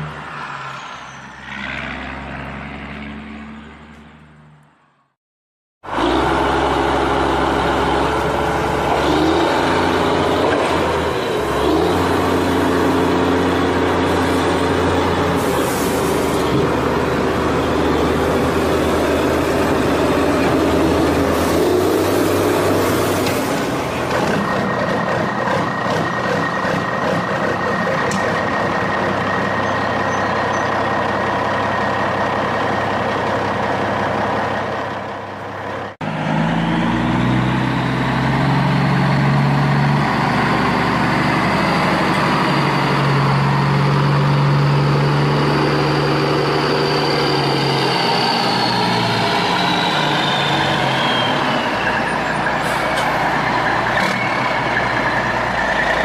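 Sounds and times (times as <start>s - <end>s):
large truck engine running: 5.8s - 56.0s.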